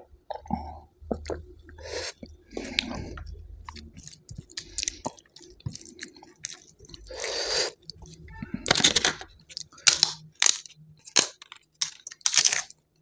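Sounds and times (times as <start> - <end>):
close chewing of food: 0.3 - 12.9.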